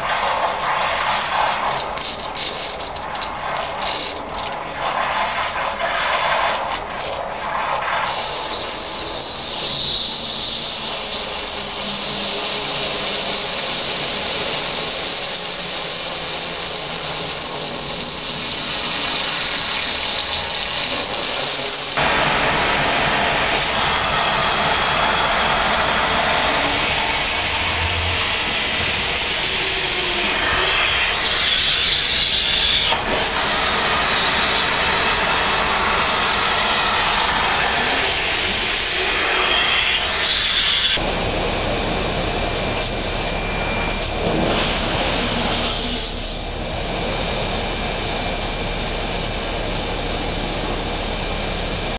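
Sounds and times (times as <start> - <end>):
vacuum cleaner air rush: 5.7 - 51.9.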